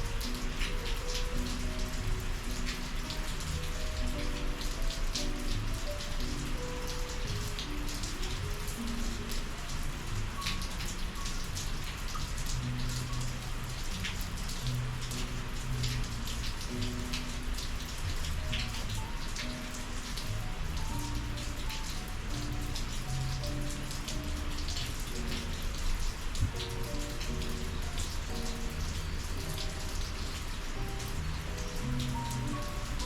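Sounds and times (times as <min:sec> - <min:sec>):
raindrops ticking on a surface: 0:00.0 - 0:33.0
soft melody of low notes: 0:00.0 - 0:33.0
steady rain falling: 0:00.0 - 0:33.0.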